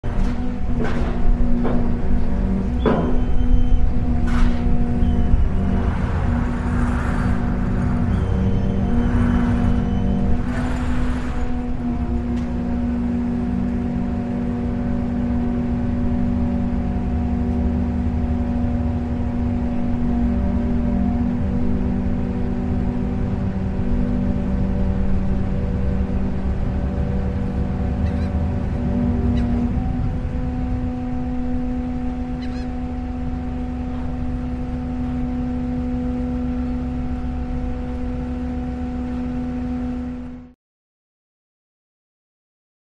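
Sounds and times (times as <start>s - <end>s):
boat engine droning: 0.0s - 40.6s.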